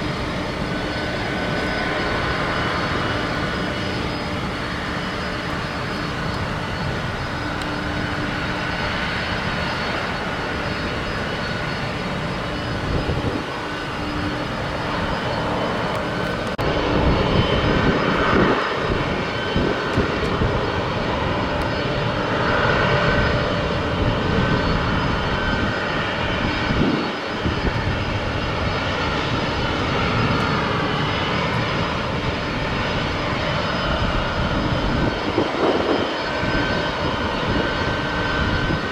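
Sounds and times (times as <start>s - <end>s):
airplane engines droning: 0.0s - 38.9s.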